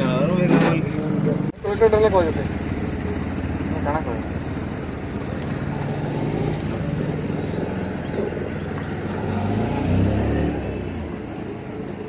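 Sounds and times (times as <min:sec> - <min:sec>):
motorcycles passing: 0:00.0 - 0:12.0
vehicle engines passing: 0:00.0 - 0:12.0.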